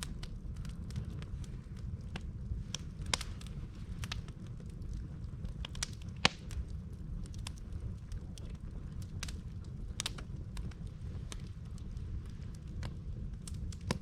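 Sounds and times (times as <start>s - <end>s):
campfire crackling and popping: 0.0s - 14.0s
low steady rumble: 0.0s - 14.0s.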